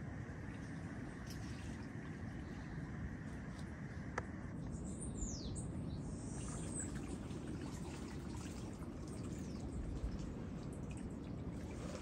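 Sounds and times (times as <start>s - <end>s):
wind and shallow water rumble: 0.0s - 12.0s.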